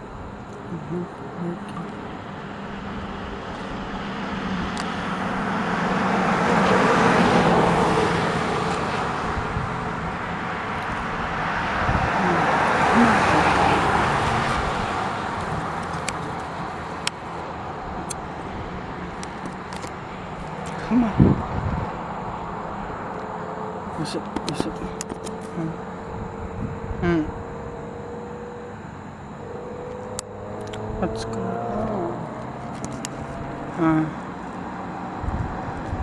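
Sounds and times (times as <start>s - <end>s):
road vehicles passing by: 0.0s - 36.0s.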